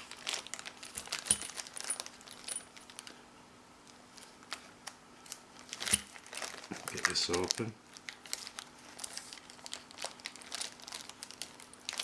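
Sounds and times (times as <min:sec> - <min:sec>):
wrapping rustling: 0:00.0 - 0:03.2, 0:03.8 - 0:12.0.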